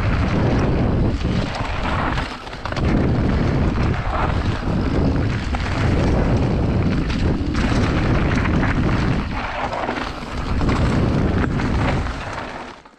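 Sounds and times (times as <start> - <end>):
bike knocking and rattling: 0.0 - 12.9
bike tyres rumbling on dirt: 0.0 - 12.9.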